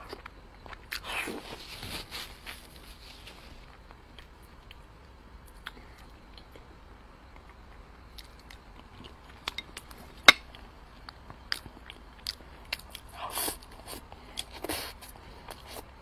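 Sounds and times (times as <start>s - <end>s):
wet chewing with mouth clicks: 0.0s - 2.8s, 5.4s - 15.9s.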